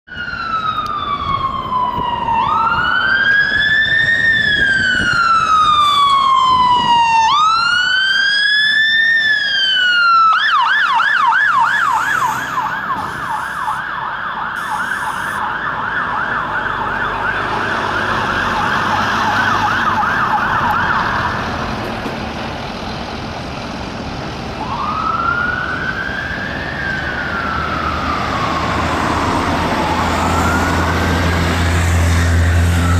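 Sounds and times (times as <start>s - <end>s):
fire engine siren wailing and yelping: 0.1s - 32.9s
road traffic noise: 0.1s - 32.9s.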